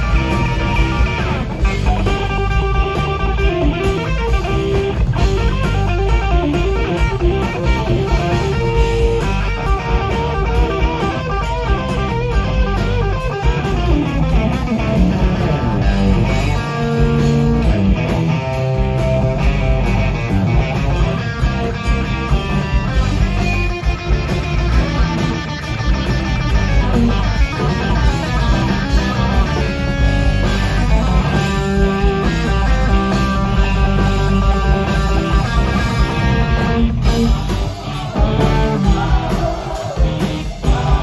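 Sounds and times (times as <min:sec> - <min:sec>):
bass guitar: 0:00.0 - 0:41.0
drums: 0:00.0 - 0:41.0
lead electric guitar: 0:00.0 - 0:41.0.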